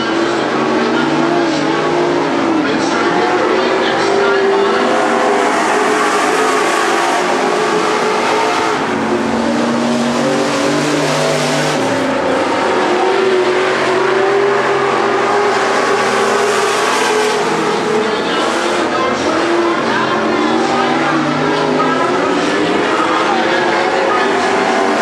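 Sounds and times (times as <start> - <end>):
race car engines passing by: 0.0 - 25.0.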